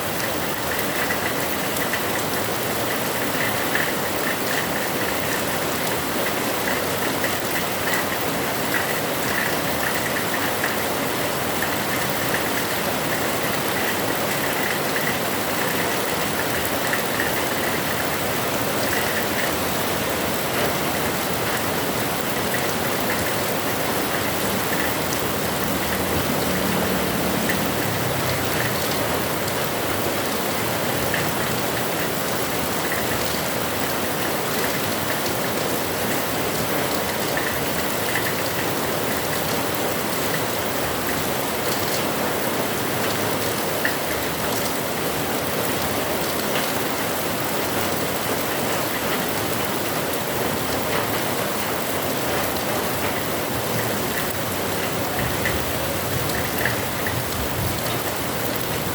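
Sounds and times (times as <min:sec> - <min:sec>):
heavy rain: 0:00.0 - 0:58.9.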